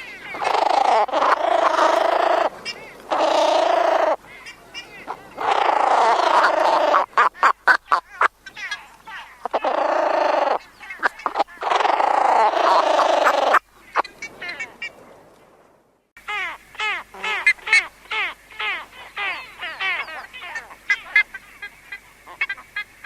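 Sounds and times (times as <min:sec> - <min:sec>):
ibis croaking: 0:00.0 - 0:15.0, 0:16.2 - 0:23.0.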